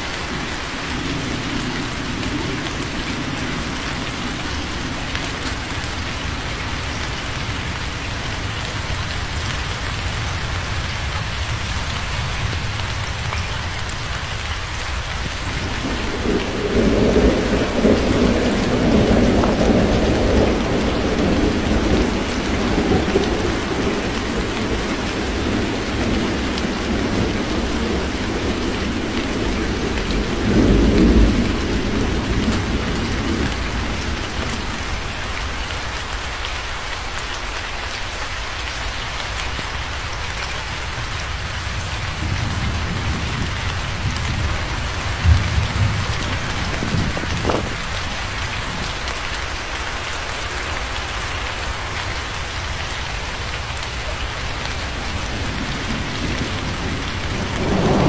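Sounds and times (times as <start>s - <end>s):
heavy rain: 0.0s - 58.0s
thunder rumbling: 0.3s - 35.9s, 41.0s - 58.0s.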